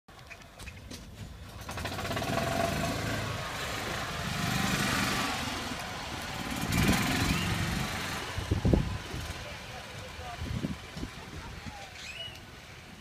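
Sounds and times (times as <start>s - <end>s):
tyres on wet pavement: 0.1s - 13.0s
small vehicle engines passing: 0.2s - 13.0s.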